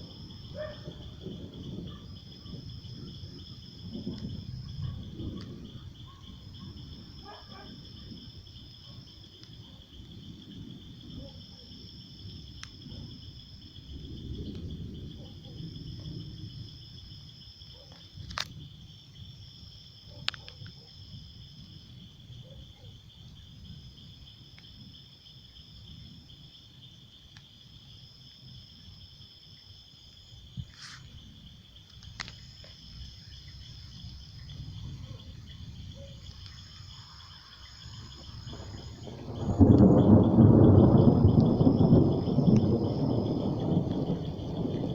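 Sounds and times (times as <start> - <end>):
steady insect trill: 0.0 - 44.9.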